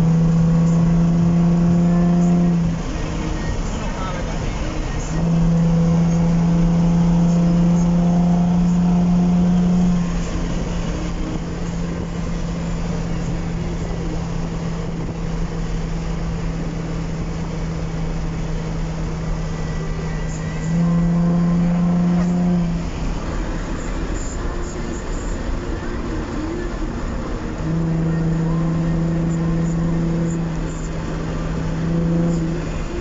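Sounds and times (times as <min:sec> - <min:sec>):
car engine exhaust running: 0:00.0 - 0:33.0.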